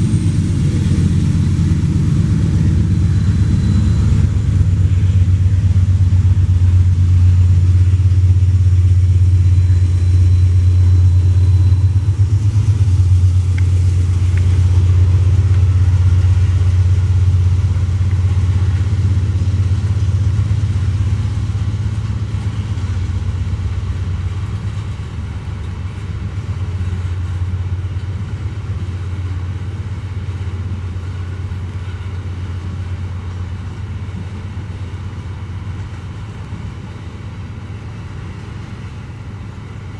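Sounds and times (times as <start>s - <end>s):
locomotive engine drone: 0.0s - 39.9s.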